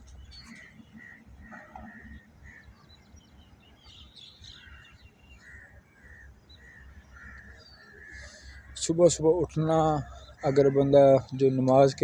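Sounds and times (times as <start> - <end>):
birds chirping faintly: 0.0 - 12.0.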